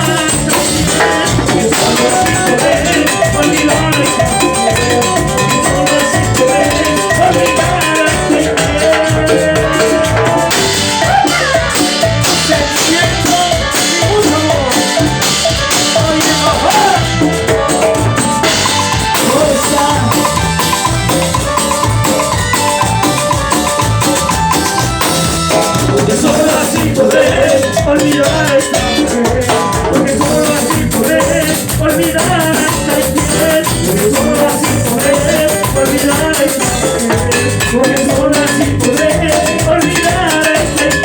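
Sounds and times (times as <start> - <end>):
instrumental lead melody: 0.0 - 41.0
steady drum beat: 0.0 - 41.0.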